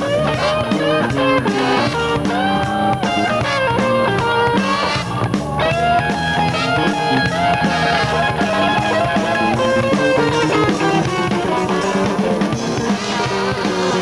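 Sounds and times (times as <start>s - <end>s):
electric guitar: 0.0s - 14.0s
live band playing: 0.0s - 14.0s.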